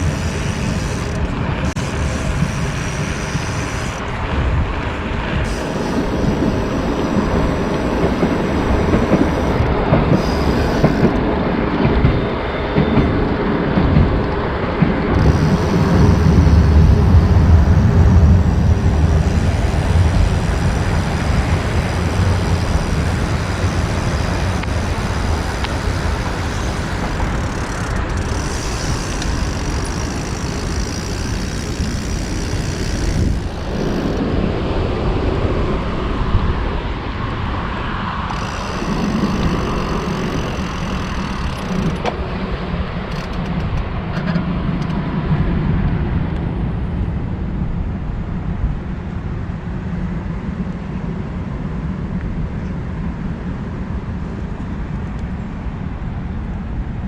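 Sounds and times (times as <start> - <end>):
road traffic rumble: 0.0 - 46.6.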